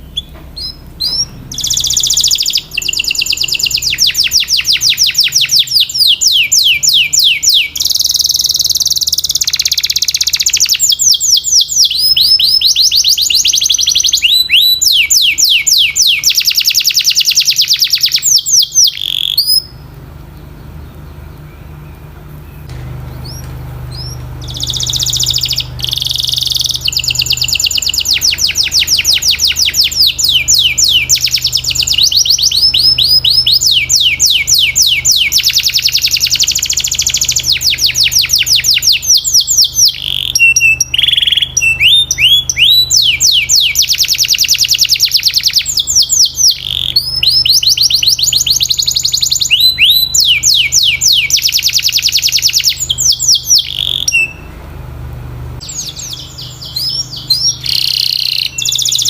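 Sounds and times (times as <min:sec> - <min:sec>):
low steady hum: 0:00.0 - 0:16.5, 0:17.1 - 0:59.0
canary singing trills: 0:00.0 - 0:54.6, 0:55.6 - 0:59.0.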